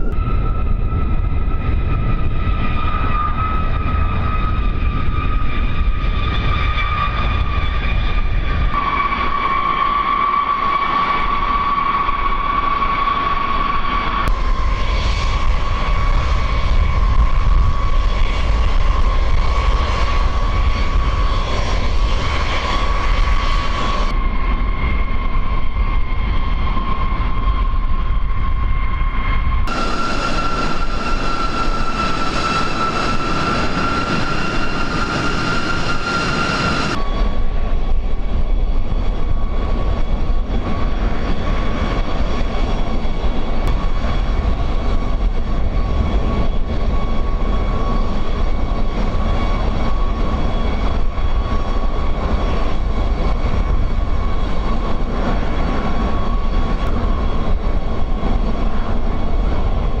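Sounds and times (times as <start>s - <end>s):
jet engines whining and rumbling: 0.0s - 60.0s.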